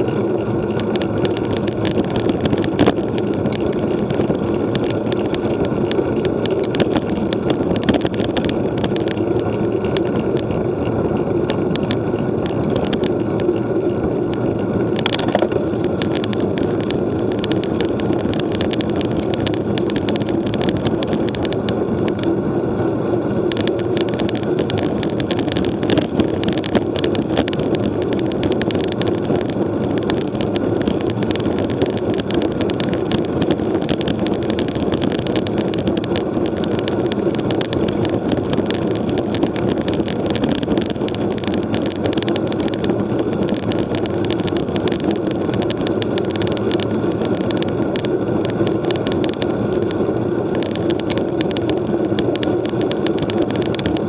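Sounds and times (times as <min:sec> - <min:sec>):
bike clicks and rattles: 0:00.0 - 0:22.4, 0:23.5 - 0:54.0
wind and road noise: 0:00.0 - 0:54.0.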